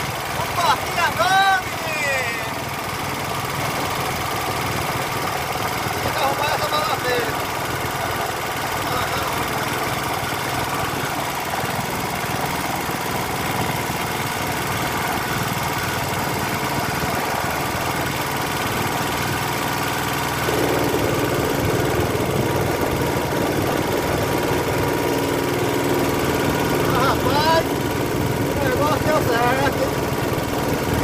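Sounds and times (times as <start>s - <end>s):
small petrol engine running: 0.0s - 31.0s.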